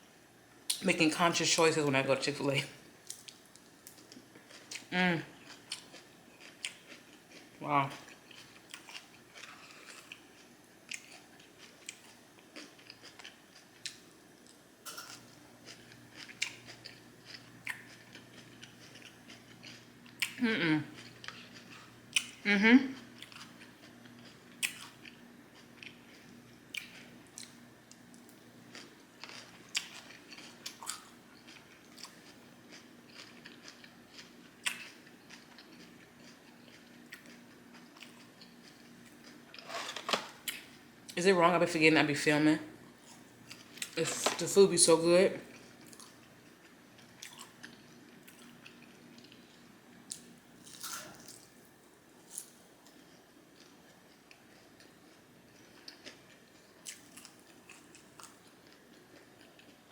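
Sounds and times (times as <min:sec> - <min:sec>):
faint steady hum: 0:00.0 - 0:59.9
person chewing food: 0:03.1 - 0:40.9, 0:43.0 - 0:44.0, 0:45.5 - 0:59.9.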